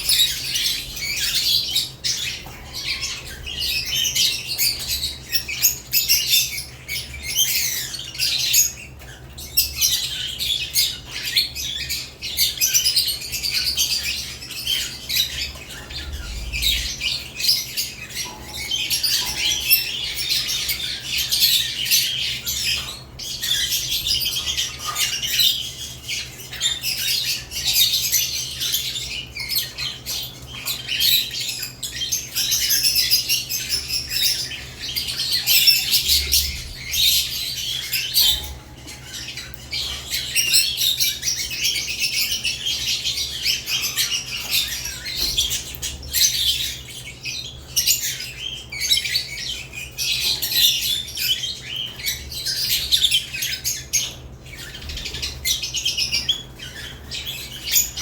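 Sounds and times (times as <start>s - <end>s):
lovebirds chattering and squawking: 0.0s - 58.0s.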